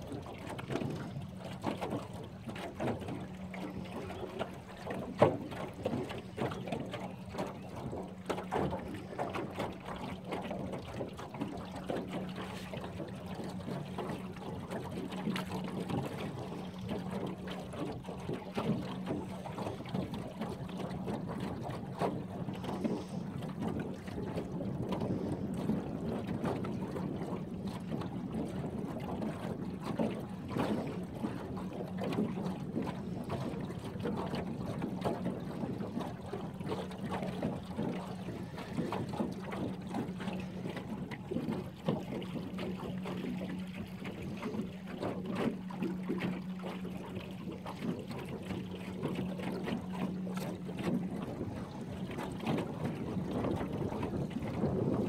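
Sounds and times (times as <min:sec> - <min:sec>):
low motor hum: 0:00.0 - 0:55.0
water lapping against hull: 0:00.0 - 0:55.0.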